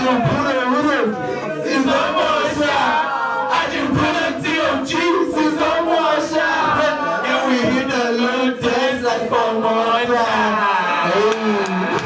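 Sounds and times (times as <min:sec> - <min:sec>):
crowd shouting and chanting: 0:00.0 - 0:12.0.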